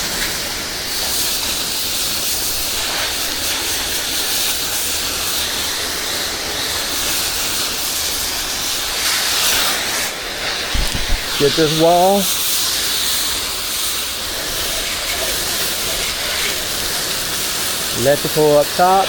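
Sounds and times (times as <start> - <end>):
pressure washer spraying water: 0.0 - 19.0.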